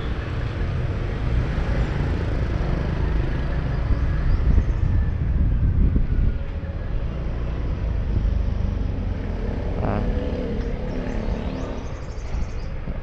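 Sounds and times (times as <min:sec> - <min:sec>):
rumble of passing vehicles: 0:00.0 - 0:13.0.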